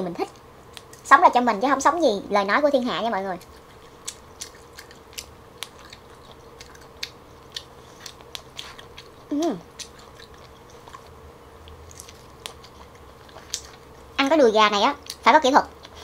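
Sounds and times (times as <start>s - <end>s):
faint steady hum: 0.0s - 16.0s
close chewing with mouth clicks: 0.3s - 1.1s, 3.3s - 14.2s, 14.9s - 16.0s.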